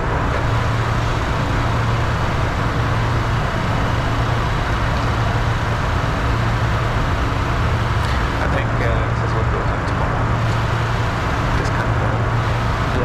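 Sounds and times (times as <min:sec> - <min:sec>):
rush of air in cockpit: 0:00.0 - 0:13.0
steady low hum: 0:00.0 - 0:13.0.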